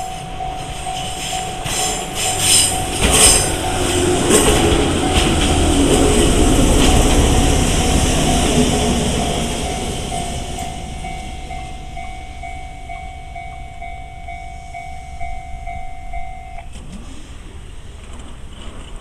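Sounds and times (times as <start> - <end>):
level crossing warning bell: 0.0 - 16.8
passing train rumble: 0.0 - 19.0.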